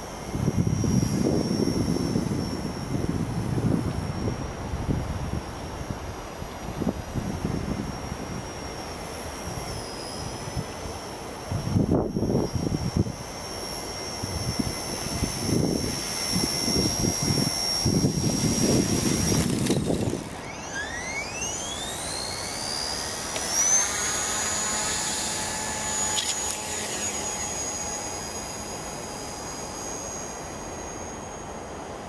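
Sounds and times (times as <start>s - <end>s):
rc helicopter motor whining: 0.0s - 32.0s.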